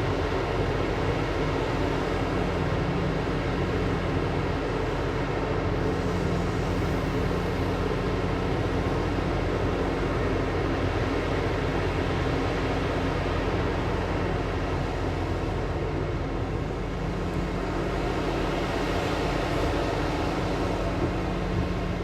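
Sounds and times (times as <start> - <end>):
diesel machinery running: 0.0 - 22.0.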